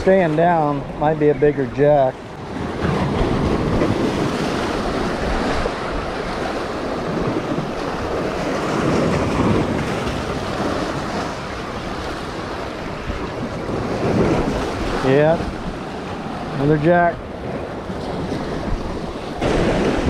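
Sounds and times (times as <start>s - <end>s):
surf washing over rocks: 0.0s - 20.0s
wind buffeting microphone: 0.0s - 20.0s.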